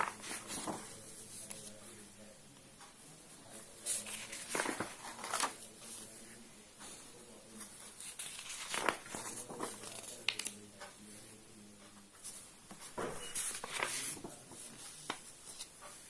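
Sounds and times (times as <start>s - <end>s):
paper rustling and crinkling: 0.0s - 2.0s, 3.5s - 10.9s, 12.2s - 16.0s.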